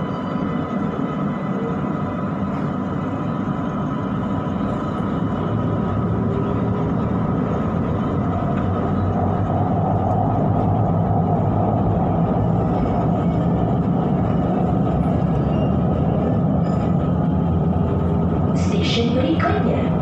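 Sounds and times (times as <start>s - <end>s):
train motor hum: 0.0s - 20.0s
train wheels rumbling on rail: 0.0s - 20.0s.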